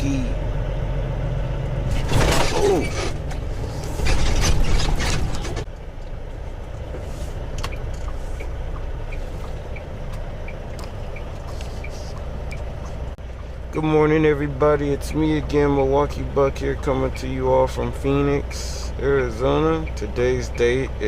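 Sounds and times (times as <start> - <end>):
truck engine droning: 0.0 - 21.0.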